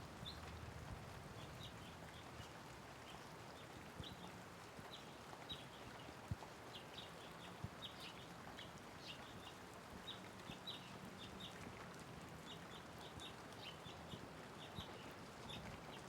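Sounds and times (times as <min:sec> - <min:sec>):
light rain on wet road: 0:00.0 - 0:16.0.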